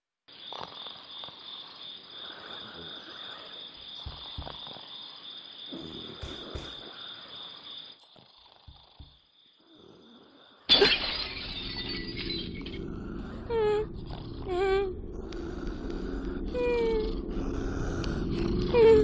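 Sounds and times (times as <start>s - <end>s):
crickets chirring: 0.3s - 19.0s.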